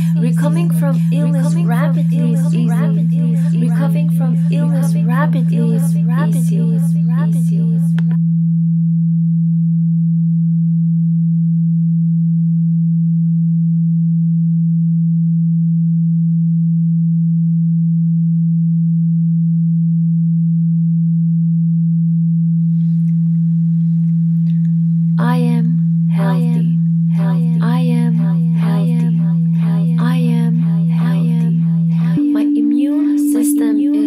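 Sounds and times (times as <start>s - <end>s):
steady low pure tone: 0.0s - 34.0s.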